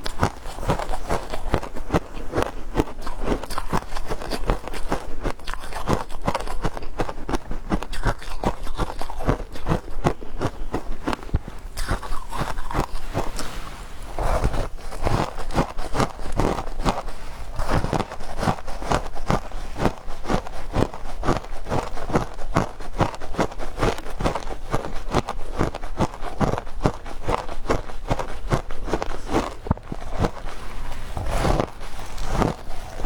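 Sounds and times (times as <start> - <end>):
crunching of chewed ice: 0.0 - 33.0.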